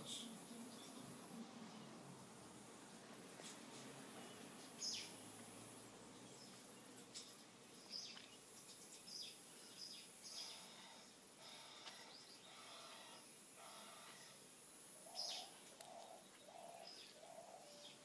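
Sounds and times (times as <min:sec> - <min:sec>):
quiet hiss: 0:00.0 - 0:18.0.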